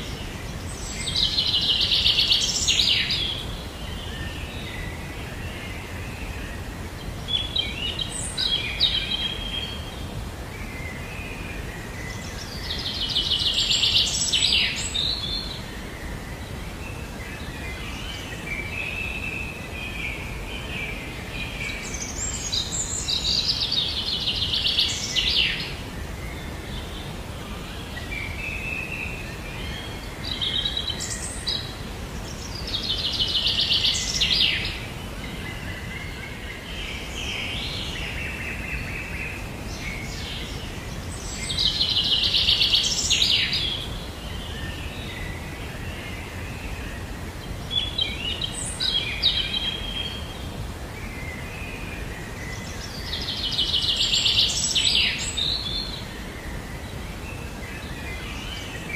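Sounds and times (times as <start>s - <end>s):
low background hiss: 0.0s - 58.9s.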